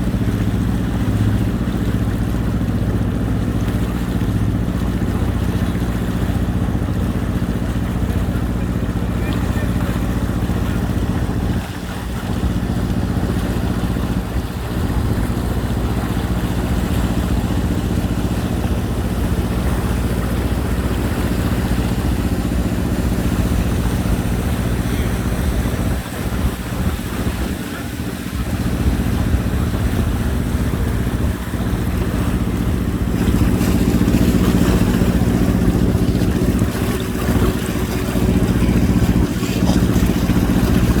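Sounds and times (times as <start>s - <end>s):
boat engine drone: 0.0s - 41.0s.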